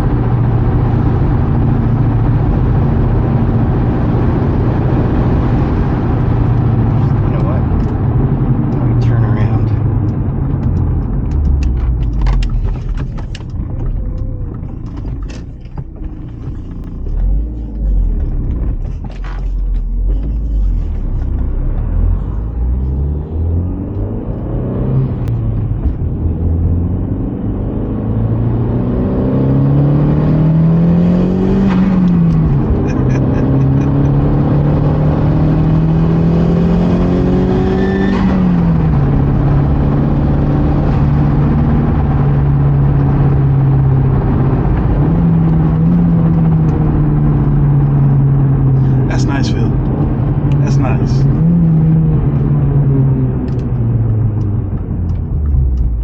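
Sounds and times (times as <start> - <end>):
car engine heard from cabin: 0.0 - 56.0.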